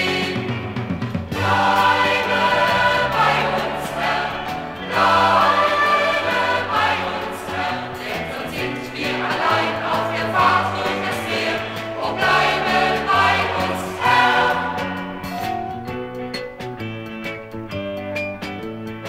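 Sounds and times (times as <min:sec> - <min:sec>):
choir singing: 0:00.0 - 0:15.8
band playing: 0:00.0 - 0:18.2.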